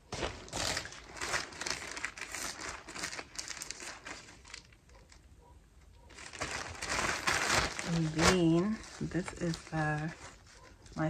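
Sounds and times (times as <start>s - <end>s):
packaging crinkling: 0.0s - 5.3s, 6.0s - 11.0s.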